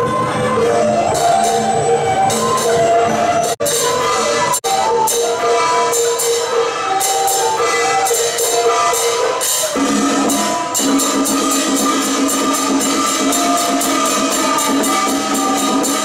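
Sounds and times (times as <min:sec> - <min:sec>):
clashing cymbals and drums: 0:01.0 - 0:16.0.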